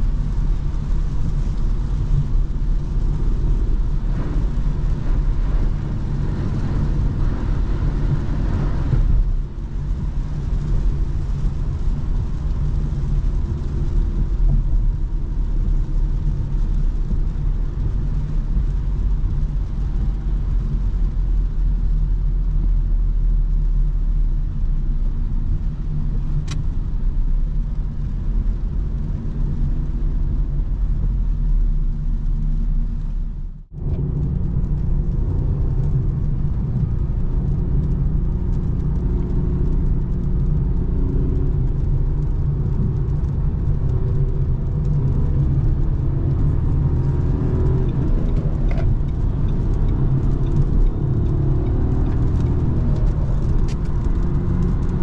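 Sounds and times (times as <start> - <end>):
car engine running: 0.0 - 55.0
road noise: 0.0 - 55.0.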